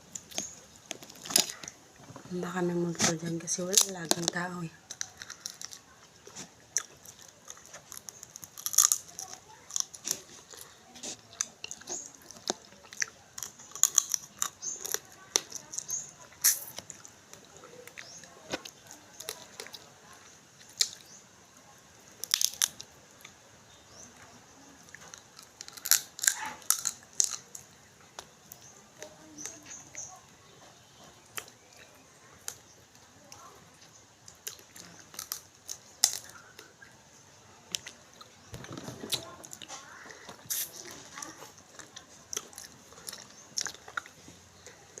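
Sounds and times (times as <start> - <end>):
person chewing crunchy food: 0.0 - 21.2, 22.2 - 23.4, 24.8 - 33.0, 33.7 - 37.1, 37.7 - 45.0.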